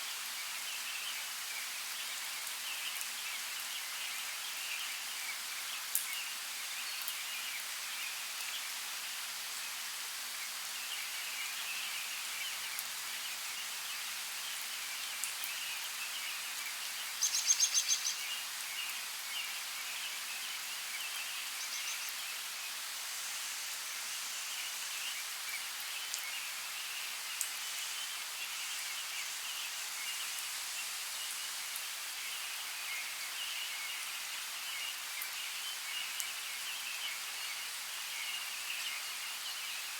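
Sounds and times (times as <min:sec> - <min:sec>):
light rain in forest: 0:00.0 - 0:39.9.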